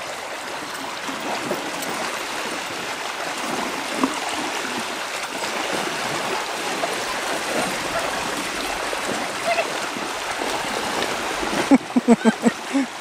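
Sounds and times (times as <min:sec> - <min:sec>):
water splashing as horses wade: 0:00.0 - 0:13.0.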